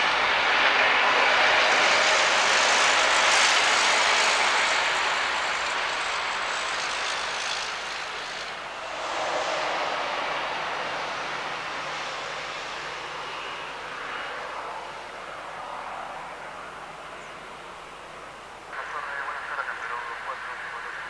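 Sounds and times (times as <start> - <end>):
jet engines rushing and whining: 0.0 - 21.0.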